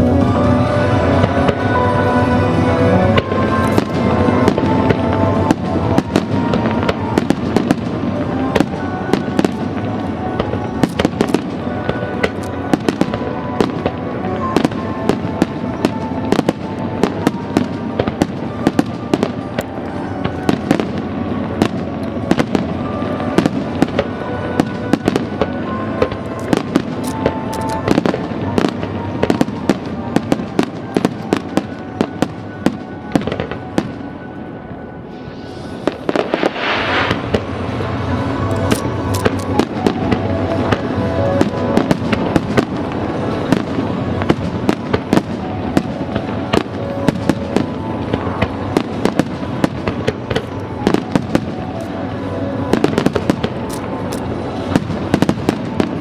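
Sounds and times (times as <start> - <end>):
fireworks bursting and crackling: 0.0 - 56.0
music: 0.0 - 56.0.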